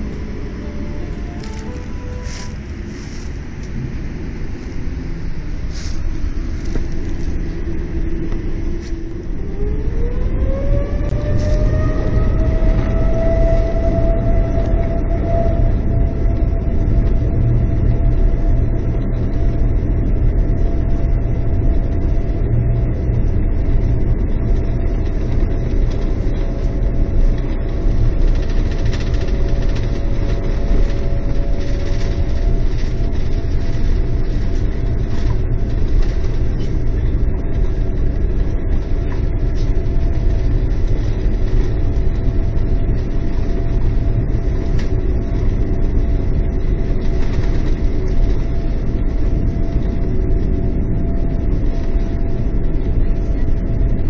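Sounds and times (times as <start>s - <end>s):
faint high whine: 0.0s - 54.0s
low engine and rolling rumble: 0.0s - 54.0s.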